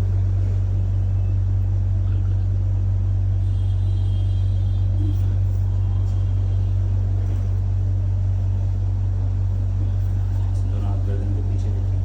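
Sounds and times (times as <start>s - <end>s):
steady low-pitched hum: 0.0s - 12.0s.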